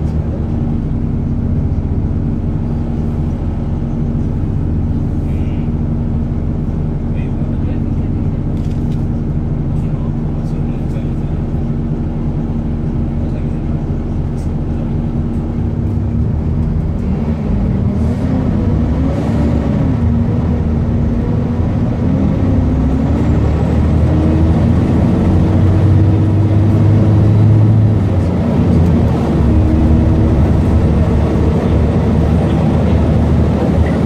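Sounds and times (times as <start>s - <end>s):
bus diesel engine driving: 0.0s - 34.0s.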